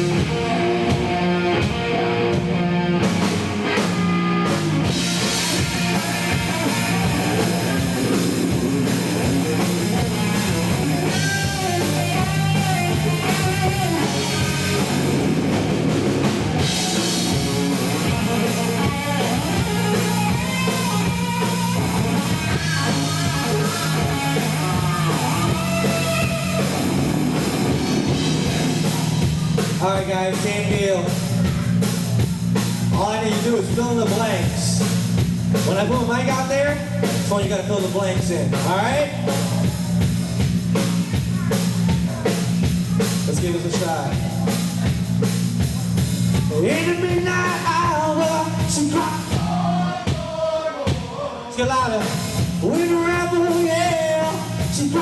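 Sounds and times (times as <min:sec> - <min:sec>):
electric guitar: 0:00.0 - 0:49.4
bass line: 0:00.0 - 0:55.0
drum kit: 0:00.0 - 0:55.0.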